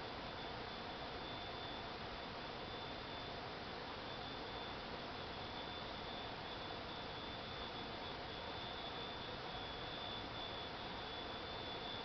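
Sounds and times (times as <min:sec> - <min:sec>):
high-pitched whine: 0:00.0 - 0:12.0
steady background hiss: 0:00.0 - 0:12.0.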